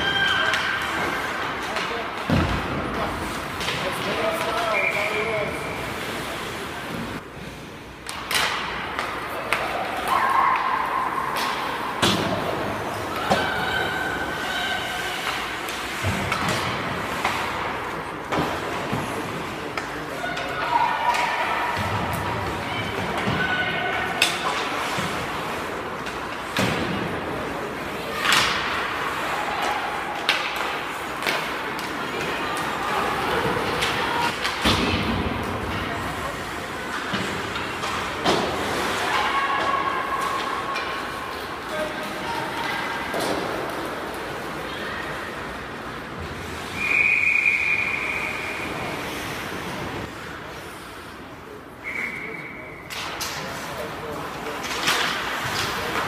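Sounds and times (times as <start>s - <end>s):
arena background noise: 0.0s - 56.0s.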